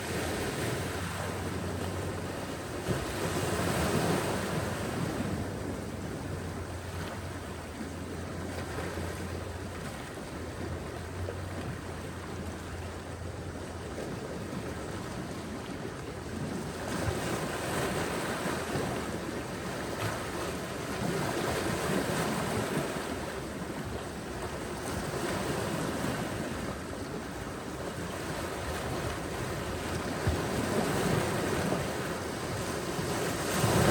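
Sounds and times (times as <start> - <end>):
ocean waves washing onto beach: 0.0 - 33.9.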